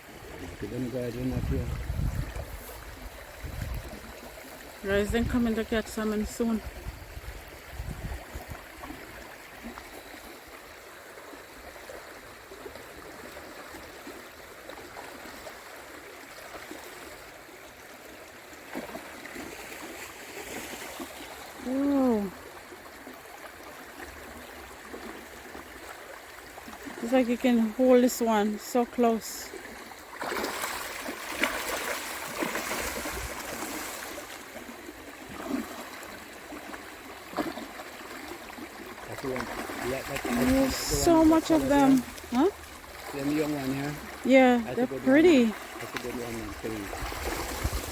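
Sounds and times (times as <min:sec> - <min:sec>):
stream water flowing: 0:00.0 - 0:47.9.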